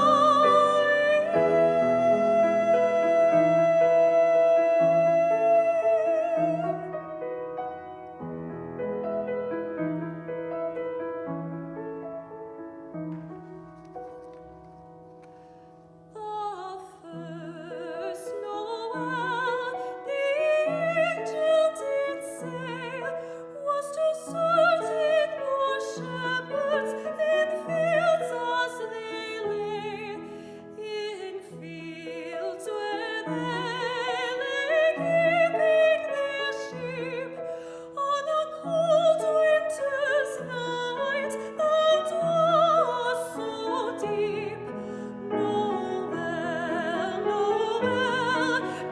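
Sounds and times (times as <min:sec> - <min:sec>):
soprano singing with vibrato: 0:00.0 - 0:07.8, 0:16.1 - 0:48.9
piano accompaniment: 0:00.0 - 0:48.9.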